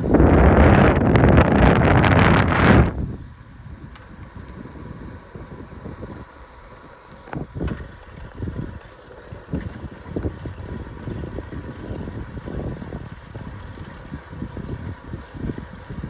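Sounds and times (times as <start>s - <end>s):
bicycle tyres rumbling on trail: 0.0s - 16.0s
wind on microphone: 0.0s - 16.0s.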